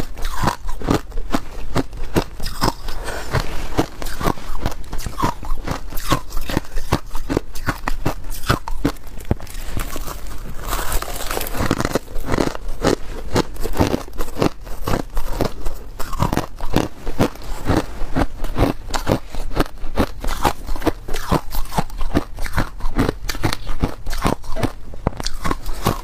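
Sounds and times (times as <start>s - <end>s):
crushed ice being chewed: 0.0s - 26.0s.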